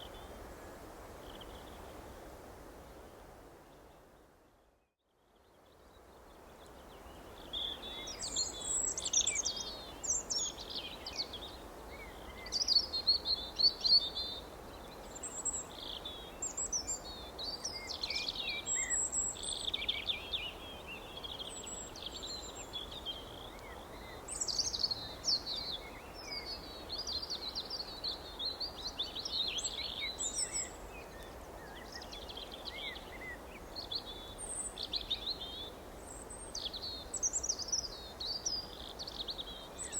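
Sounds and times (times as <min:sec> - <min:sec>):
background hiss: 0:05.3 - 0:39.9.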